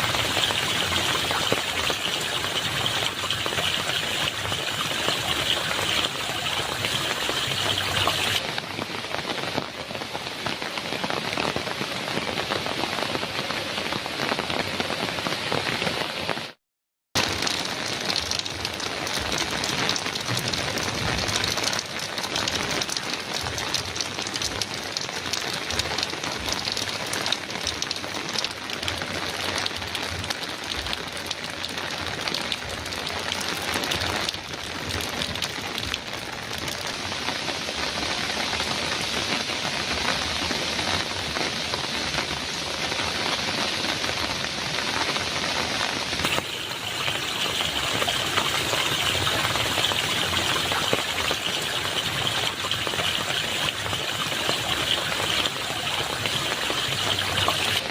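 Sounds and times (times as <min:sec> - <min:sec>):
heavy rain on a metal roof: 0:00.0 - 0:16.6, 0:17.2 - 0:57.9.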